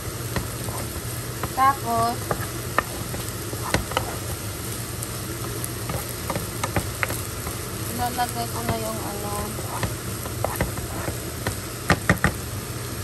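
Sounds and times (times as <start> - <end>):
rice sizzling in a pan: 0.0 - 13.0.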